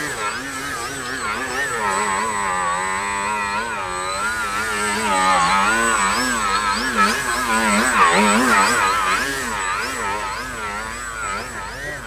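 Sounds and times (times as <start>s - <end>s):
model plane motor and propeller: 0.0s - 12.0s.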